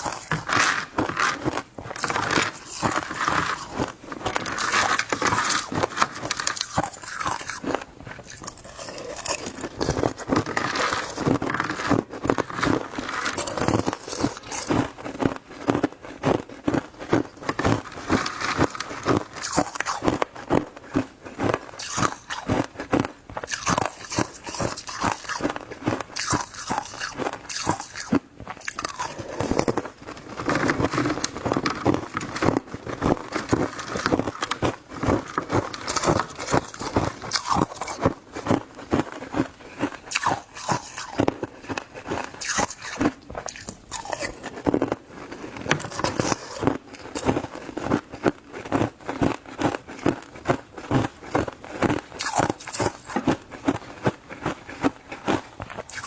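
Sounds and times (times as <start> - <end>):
ice crunching while chewed: 0.0 - 56.0.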